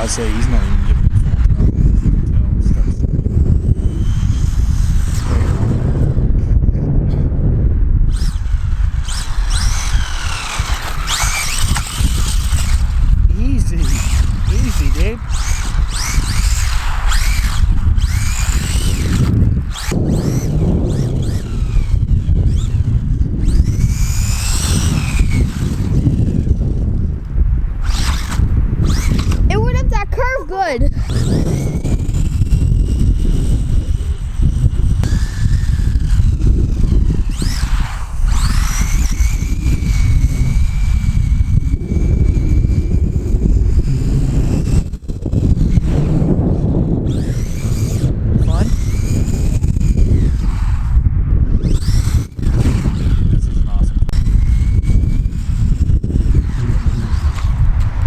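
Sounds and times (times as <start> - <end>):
toy car electric motor whining: 0.0 - 6.2, 8.1 - 27.2, 27.8 - 58.0
wind rumble on microphone: 0.0 - 58.0.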